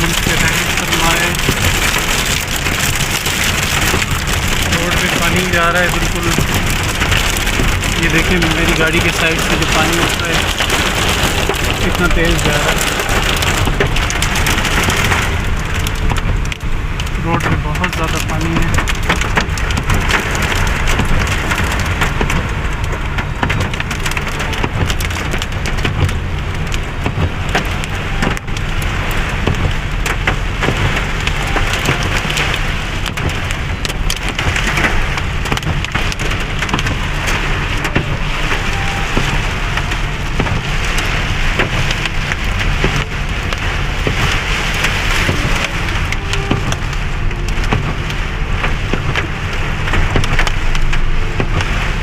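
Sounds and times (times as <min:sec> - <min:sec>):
car driving through water: 0:00.0 - 0:52.0
rain and hail drumming on car roof: 0:00.0 - 0:52.0.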